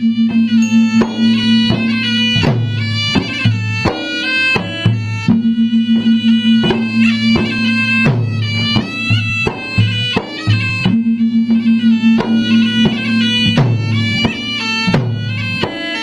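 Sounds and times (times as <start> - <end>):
drum ensemble playing: 0.0 - 16.0
reedy wind instrument melody: 0.0 - 16.0.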